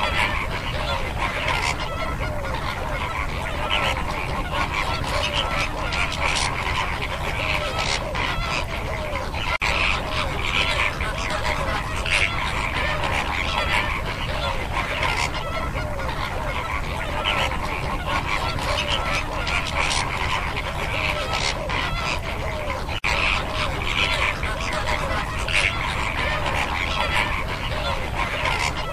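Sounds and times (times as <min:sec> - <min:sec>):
flamingos honking: 0:00.0 - 0:28.9.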